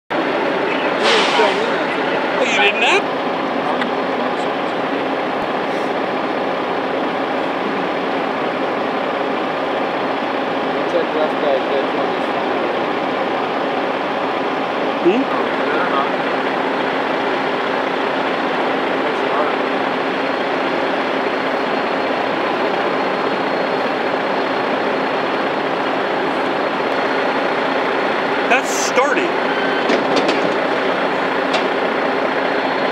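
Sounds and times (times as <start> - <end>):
heavy truck engines droning: 0.1 - 32.9.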